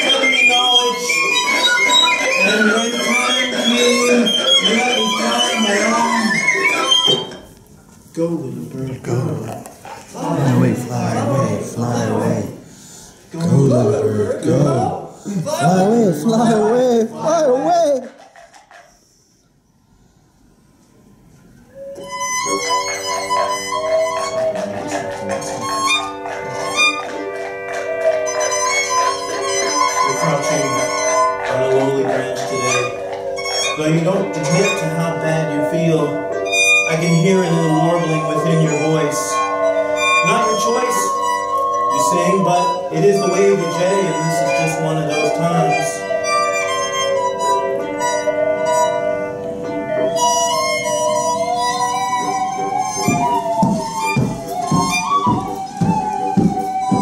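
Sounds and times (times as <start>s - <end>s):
violin playing: 0.0s - 7.6s, 8.6s - 12.7s, 21.8s - 57.0s
small ensemble holding long notes: 0.0s - 18.0s, 21.0s - 57.0s.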